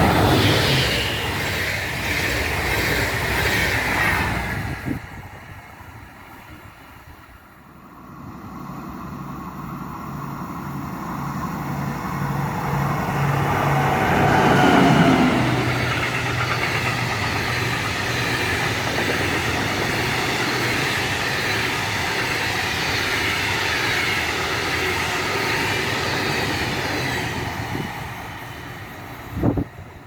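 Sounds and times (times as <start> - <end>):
train rolling past: 0.0 - 30.0.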